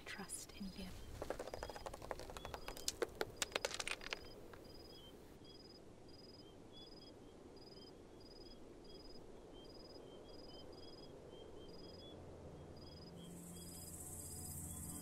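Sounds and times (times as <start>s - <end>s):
crickets chirping: 0.9s - 15.0s.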